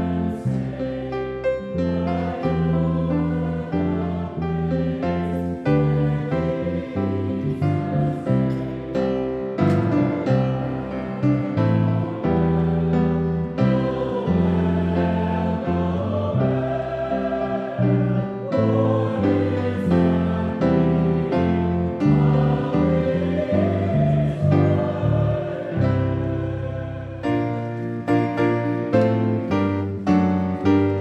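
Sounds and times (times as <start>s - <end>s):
choir singing sacred music: 0.0s - 31.0s
piano chords: 0.0s - 31.0s.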